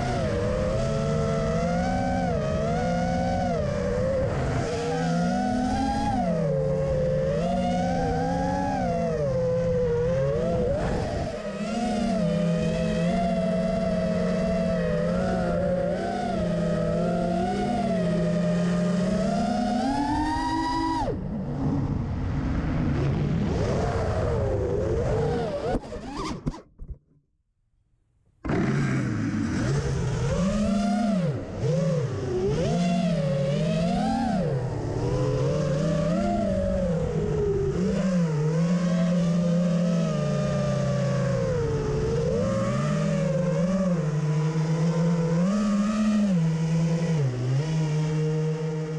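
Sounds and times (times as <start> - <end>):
drone motors whining: 0.0 - 26.6, 28.4 - 48.9.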